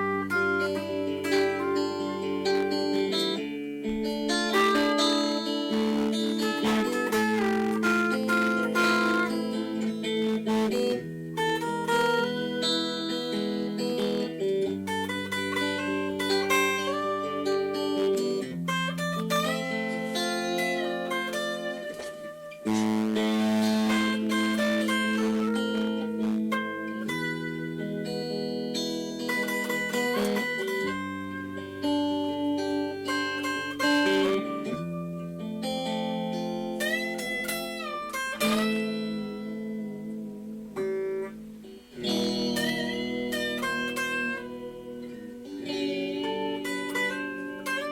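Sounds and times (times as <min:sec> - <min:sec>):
guitar playing blues: 0:00.0 - 0:47.9.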